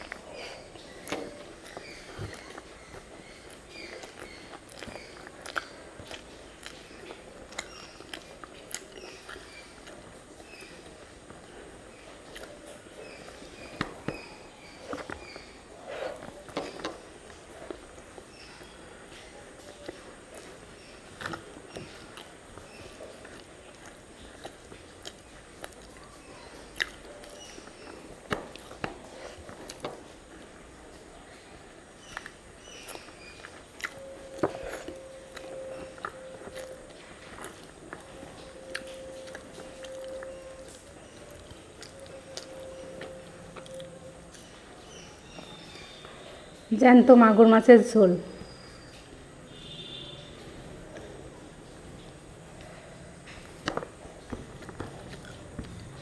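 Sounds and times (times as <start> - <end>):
person chewing: 0.0 - 46.3, 50.9 - 56.0.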